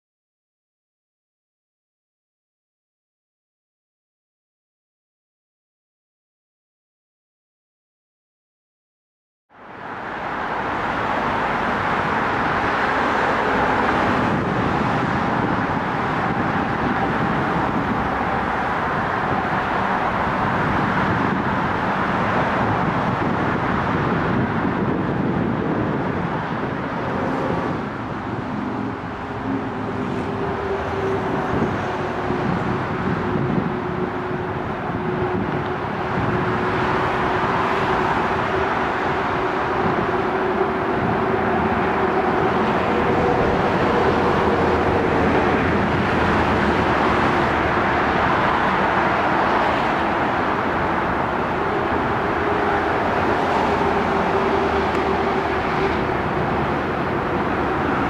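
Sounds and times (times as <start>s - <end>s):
train wheels rumbling on track: 9.8s - 58.0s.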